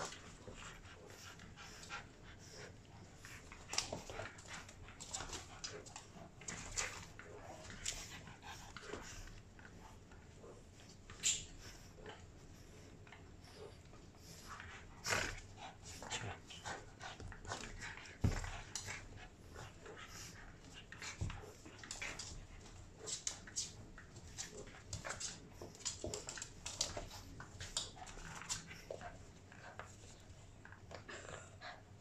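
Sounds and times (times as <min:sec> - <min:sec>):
dogs playing and scuffling: 0:00.0 - 0:32.0.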